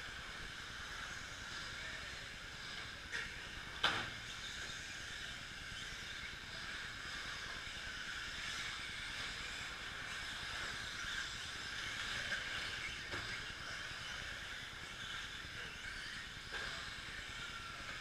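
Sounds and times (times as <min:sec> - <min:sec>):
rc truck motors whining: 0:00.0 - 0:18.0.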